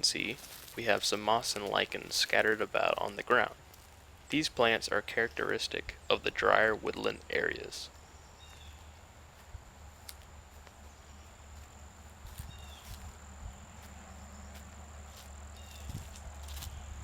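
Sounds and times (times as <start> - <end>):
insects trilling: 0.1 - 8.9, 9.8 - 17.0.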